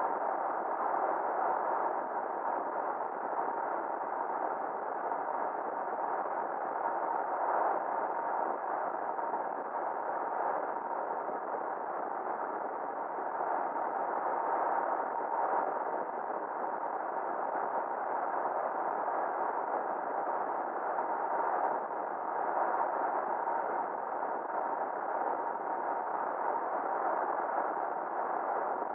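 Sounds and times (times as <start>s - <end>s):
faint steady tone: 0.0s - 28.9s.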